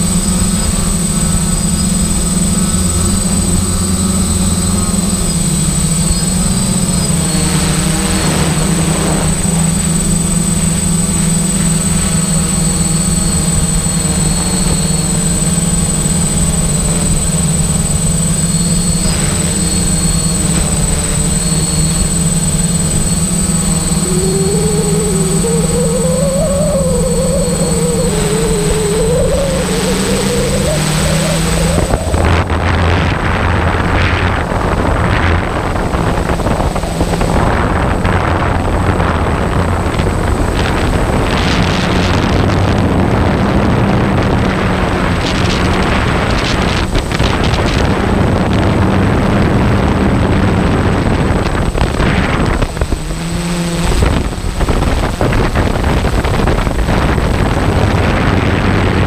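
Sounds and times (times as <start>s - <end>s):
constant rushing noise: 0.0s - 59.0s
engine humming: 0.0s - 59.0s.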